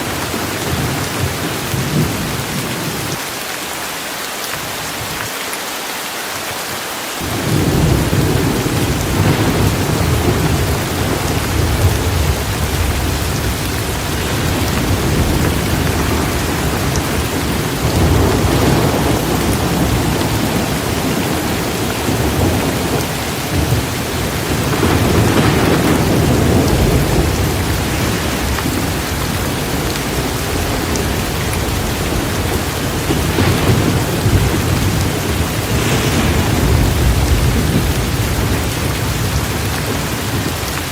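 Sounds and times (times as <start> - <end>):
heavy rain pouring: 0.0 - 40.9
low thunder rumbling: 7.2 - 40.9.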